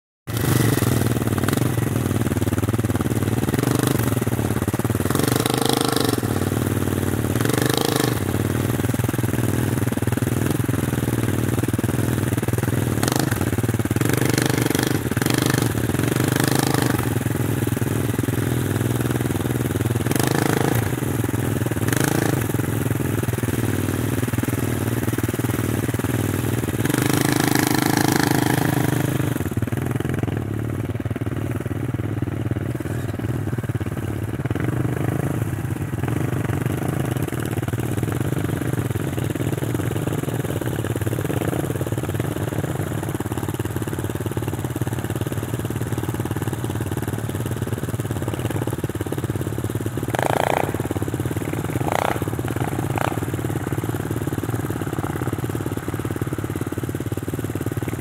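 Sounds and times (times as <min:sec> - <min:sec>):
engine idling and revving: 0:00.3 - 0:58.0.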